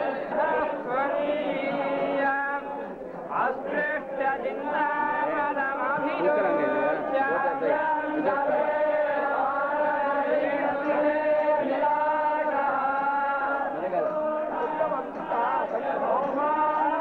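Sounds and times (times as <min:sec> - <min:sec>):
men chanting together: 0:00.0 - 0:17.0.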